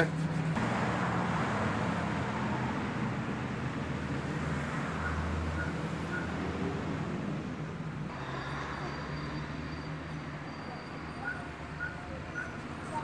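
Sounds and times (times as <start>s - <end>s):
road traffic rushing: 0.0s - 13.0s.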